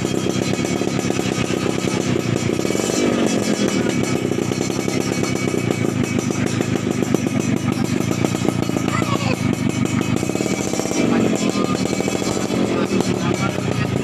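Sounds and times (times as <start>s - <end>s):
two-stroke engine exhaust pulses: 0.0s - 14.0s.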